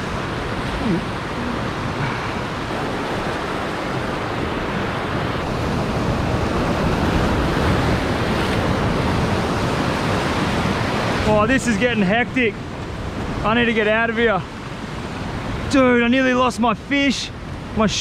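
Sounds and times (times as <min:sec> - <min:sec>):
wind buffeting microphone: 0:00.0 - 0:15.8
ocean surf breaking: 0:00.0 - 0:18.0.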